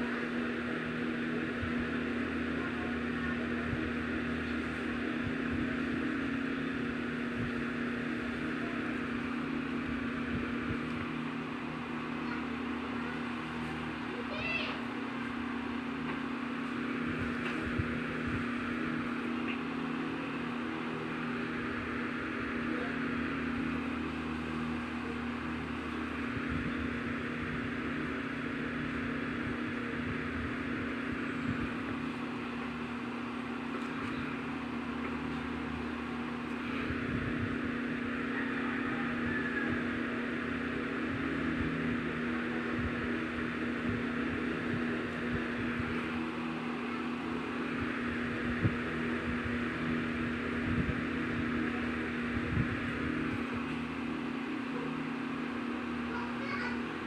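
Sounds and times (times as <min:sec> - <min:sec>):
small motor humming: 0:00.0 - 0:57.0.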